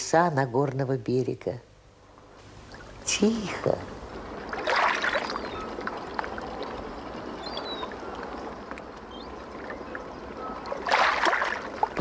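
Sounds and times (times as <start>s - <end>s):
river water lapping: 2.2s - 12.0s.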